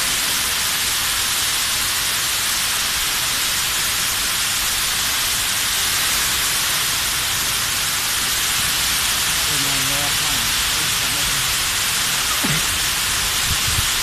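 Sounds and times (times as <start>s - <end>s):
sprinkler spraying water: 0.0s - 14.0s.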